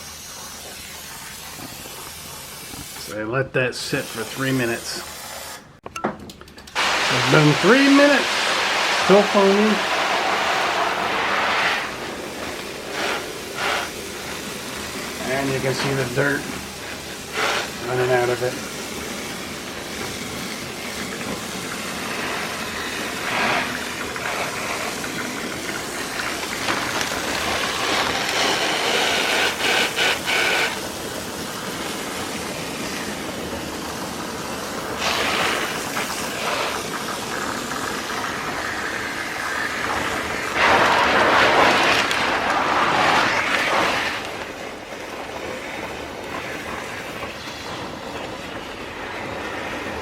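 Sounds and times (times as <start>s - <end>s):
water spray rushing: 0.0s - 5.7s, 6.7s - 50.0s.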